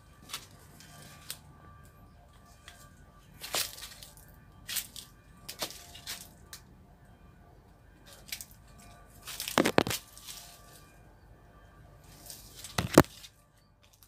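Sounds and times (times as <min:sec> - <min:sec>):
dry leaves and twigs crackling: 0:00.0 - 0:06.7, 0:08.0 - 0:11.0, 0:12.0 - 0:14.0.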